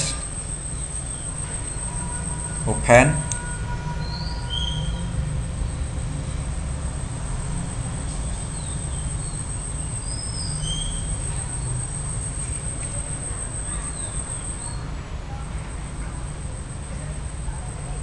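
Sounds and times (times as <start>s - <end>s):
high-pitched whine: 0.0s - 18.0s.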